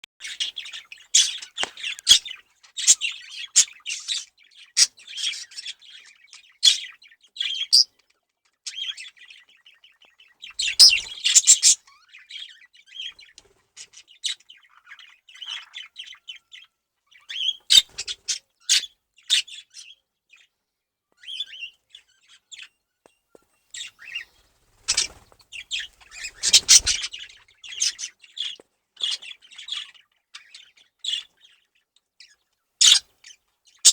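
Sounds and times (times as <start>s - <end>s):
budgerigars chattering and chirping: 0.2s - 20.5s, 21.2s - 22.8s, 23.7s - 33.9s.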